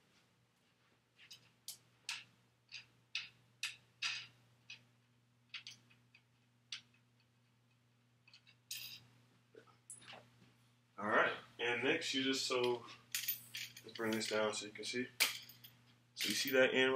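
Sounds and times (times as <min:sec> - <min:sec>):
faint low hum: 0:00.0 - 0:16.9.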